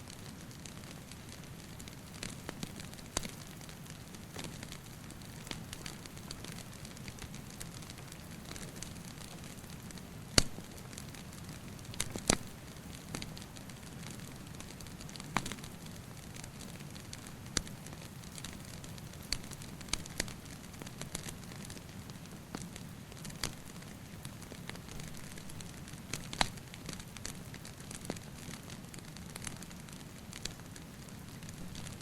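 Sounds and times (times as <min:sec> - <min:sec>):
fire pops and snaps: 0:00.0 - 0:32.0
soft hiss: 0:00.0 - 0:32.0
wood fire crackling: 0:00.0 - 0:32.0.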